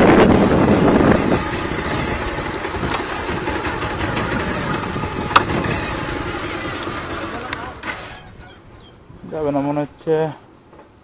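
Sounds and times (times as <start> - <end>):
motorcycle engine sputtering: 0.0 - 9.0.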